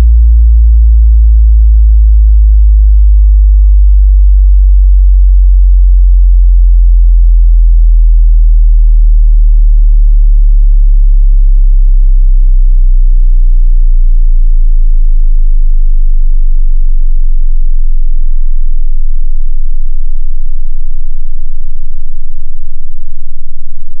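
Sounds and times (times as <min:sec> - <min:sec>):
downward sine bass tone sweep: 0:00.0 - 0:24.0.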